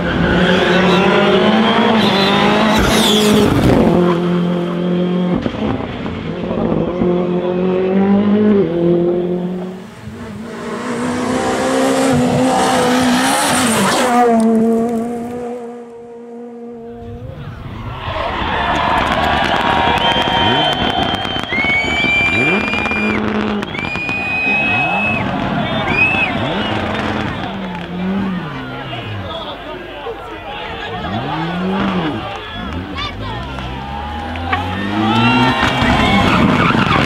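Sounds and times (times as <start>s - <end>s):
rally car engines at hard throttle: 0.0s - 37.0s.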